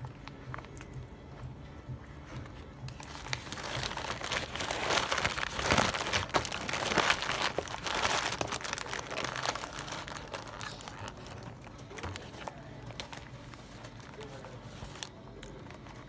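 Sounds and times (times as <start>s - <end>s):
food wrapper crinkling: 2.9s - 16.0s.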